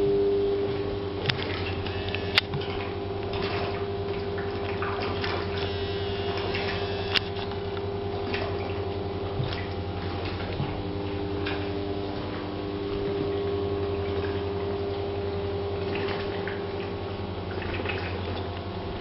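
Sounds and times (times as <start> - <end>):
machinery hum: 0.0 - 19.0
water trickling and dripping: 0.6 - 19.0.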